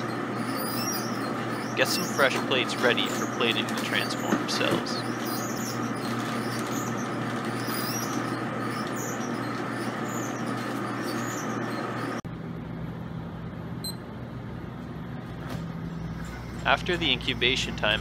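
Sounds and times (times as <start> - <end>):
refrigeration fans whirring: 0.0 - 18.0.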